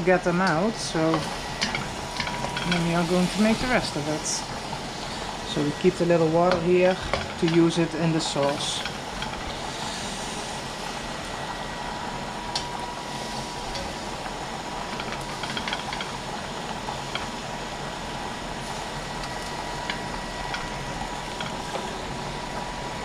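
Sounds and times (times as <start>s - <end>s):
pot boiling and bubbling: 0.0s - 23.0s
shrimp cooking in a wok: 0.0s - 23.0s.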